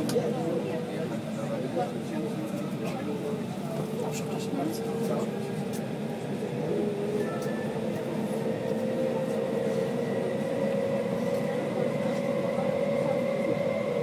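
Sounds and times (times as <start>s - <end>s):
tram rolling rumble: 0.0s - 14.0s.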